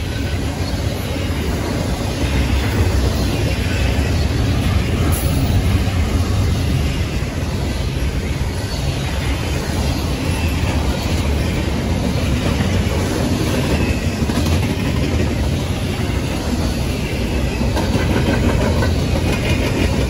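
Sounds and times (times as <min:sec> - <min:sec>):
steel wheels rolling on rails: 0:00.0 - 0:20.0.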